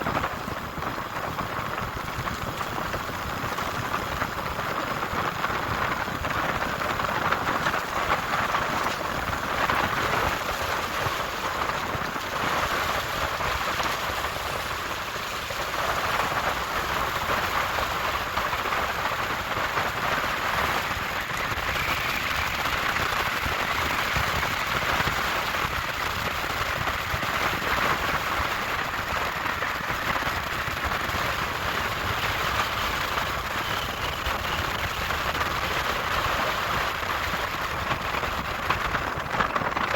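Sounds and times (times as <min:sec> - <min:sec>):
bicycle tyres rolling on trail: 0:00.0 - 0:39.9
wind on microphone: 0:00.0 - 0:39.9.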